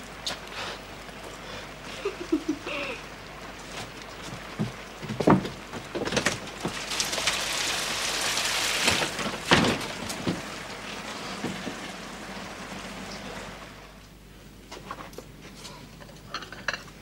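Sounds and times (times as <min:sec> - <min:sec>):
rain falling: 0:00.0 - 0:14.2.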